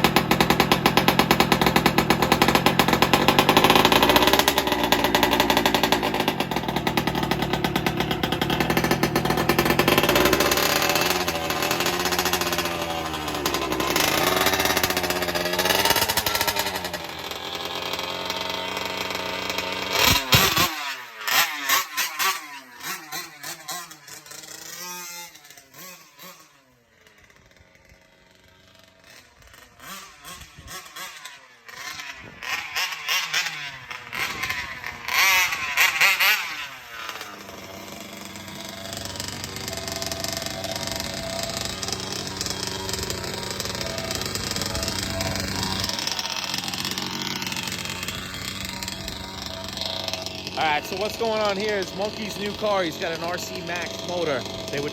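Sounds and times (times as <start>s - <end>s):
small two-stroke engine revving: 0.0s - 54.9s.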